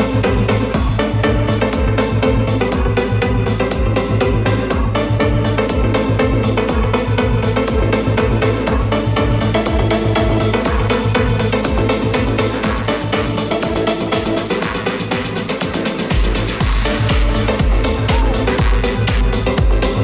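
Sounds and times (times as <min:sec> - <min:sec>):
house music with steady beat: 0:00.0 - 0:20.0.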